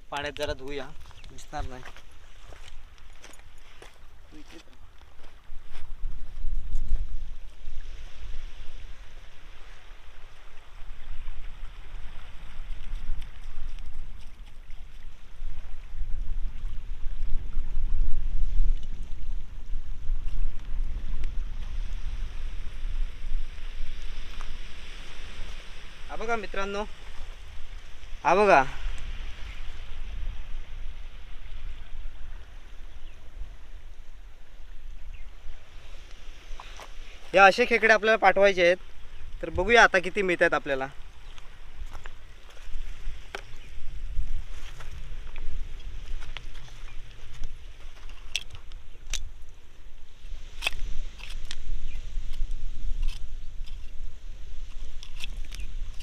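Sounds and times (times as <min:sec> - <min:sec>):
sea water rushing at shore: 0:00.0 - 0:56.0
wind buffeting microphone: 0:00.0 - 0:56.0.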